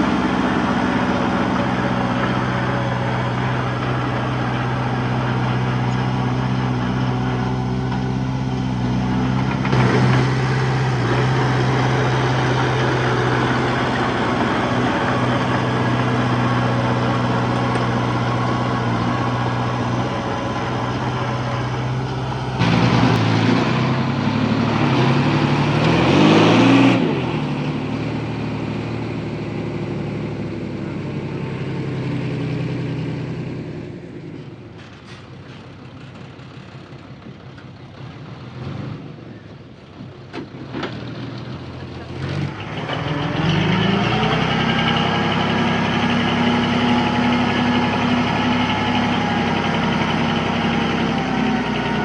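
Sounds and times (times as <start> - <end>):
heavy diesel engine revving: 0.0 - 34.7, 40.8 - 52.0.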